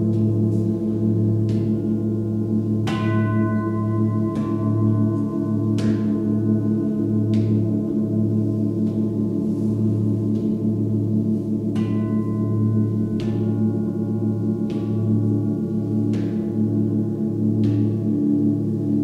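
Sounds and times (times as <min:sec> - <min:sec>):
singing bowls droning: 0:00.0 - 0:19.0
singing bowl struck: 0:00.2 - 0:09.3, 0:11.7 - 0:18.8.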